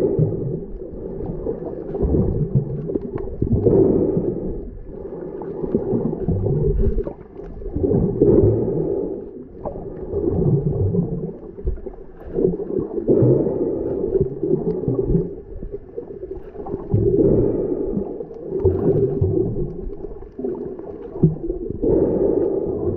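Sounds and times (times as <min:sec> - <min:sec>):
muffled underwater water rumble: 0:00.0 - 0:22.9.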